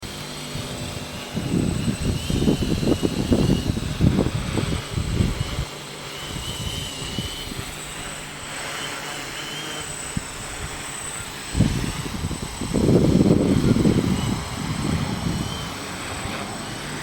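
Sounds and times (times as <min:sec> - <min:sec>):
propeller whine of small aircraft: 0:00.0 - 0:17.0
wind buffeting microphone: 0:00.0 - 0:17.0.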